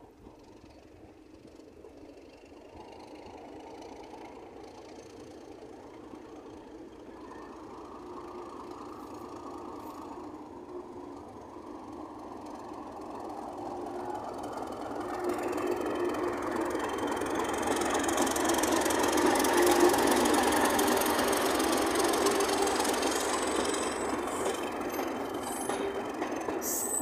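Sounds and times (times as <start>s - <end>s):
diesel locomotive engine: 0.0s - 27.0s
wheels on rails: 0.0s - 27.0s.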